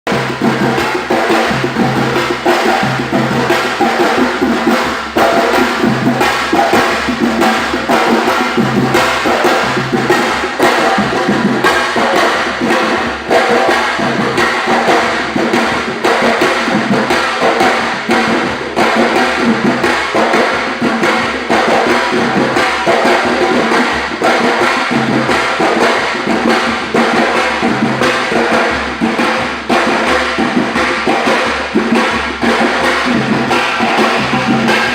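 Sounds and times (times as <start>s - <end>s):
hand drums in fast rhythm: 0.1s - 34.9s.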